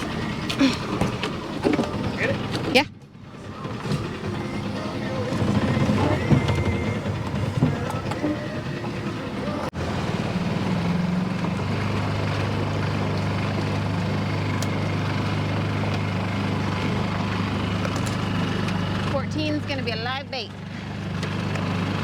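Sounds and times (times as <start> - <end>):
outboard motor running: 0.0 - 22.0
water and wind noise: 0.0 - 22.0.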